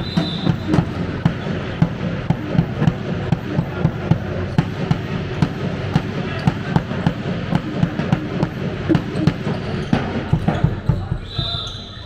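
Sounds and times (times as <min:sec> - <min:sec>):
shoes on sports hall floor: 0:00.0 - 0:12.0.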